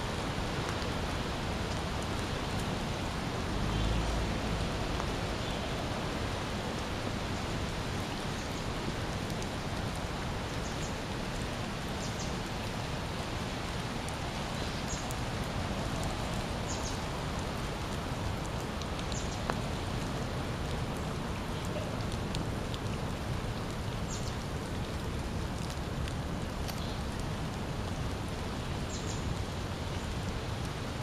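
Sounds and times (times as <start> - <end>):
steady rain on water: 0.0 - 31.0.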